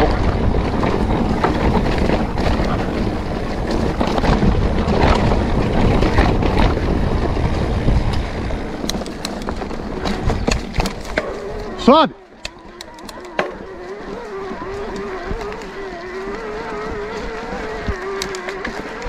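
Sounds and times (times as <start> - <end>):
bike clicks and rattles: 0.0 - 19.0
tyres rolling over dirt trail: 0.0 - 19.0
wind buffeting microphone: 0.0 - 19.0.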